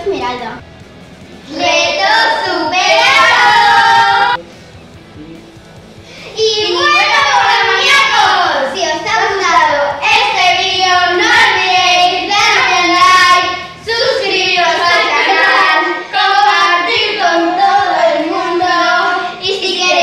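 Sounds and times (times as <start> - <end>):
girls singing: 1.5 - 4.4, 6.3 - 20.0.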